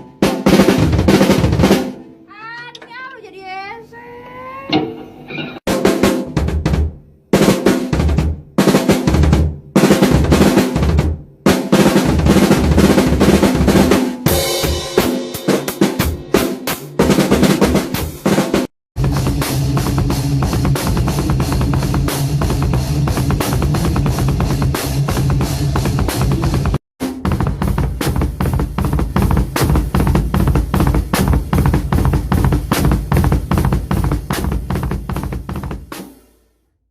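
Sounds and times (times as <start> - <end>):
rapid bass drum strokes: 0.0 - 2.0, 5.7 - 36.3
drum kit playing: 0.0 - 3.1, 4.7 - 36.5.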